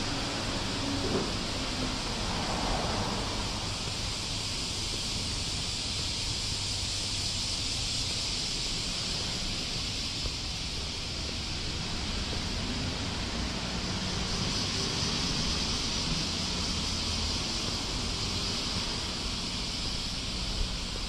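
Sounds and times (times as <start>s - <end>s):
even hiss: 0.0s - 21.0s.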